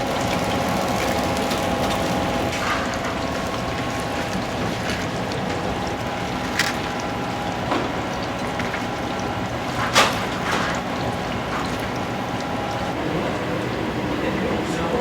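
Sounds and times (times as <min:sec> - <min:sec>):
kitchen equipment hum and hiss: 0:00.0 - 0:15.0.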